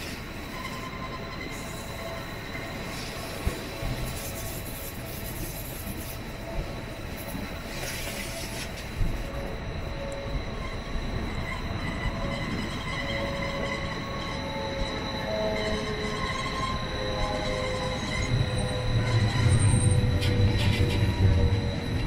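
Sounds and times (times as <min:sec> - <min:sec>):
high wheel squeal: 0:00.0 - 0:22.0
train rolling rumble: 0:00.0 - 0:22.0.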